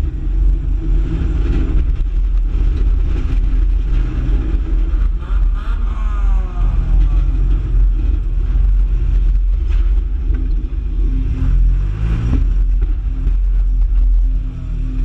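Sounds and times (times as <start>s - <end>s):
race car engine rumbling: 0.0s - 15.0s.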